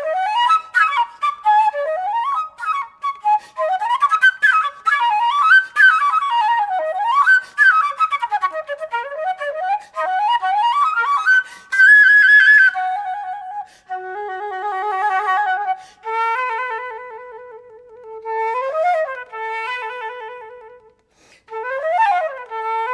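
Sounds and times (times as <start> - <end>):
solo flute playing: 0.0 - 22.9.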